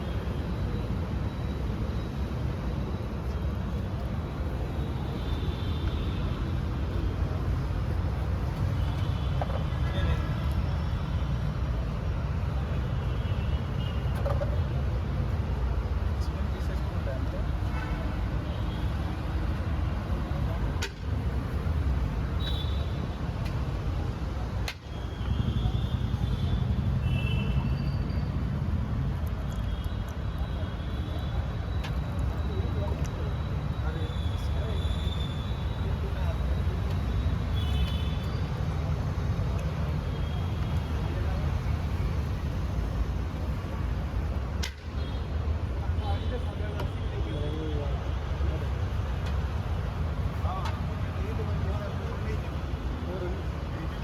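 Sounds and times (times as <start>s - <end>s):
street traffic noise: 0.0s - 54.0s.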